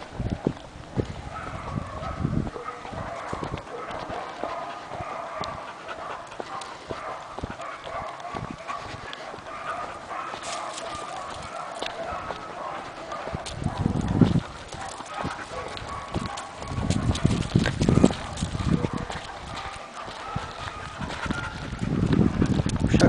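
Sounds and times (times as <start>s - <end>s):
footsteps on path: 0.0s - 23.0s
dog panting: 2.6s - 22.9s.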